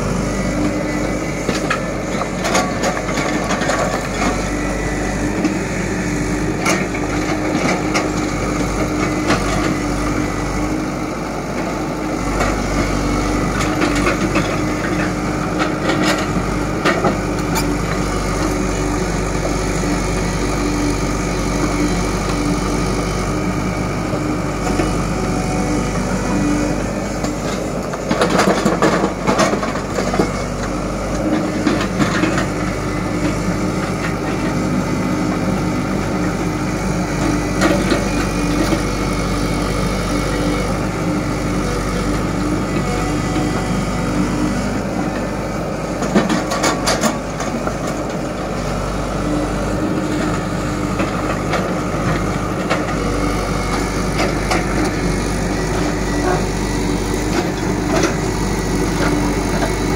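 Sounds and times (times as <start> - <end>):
excavator diesel engine: 0.0 - 59.9
tractor idling: 0.0 - 59.9.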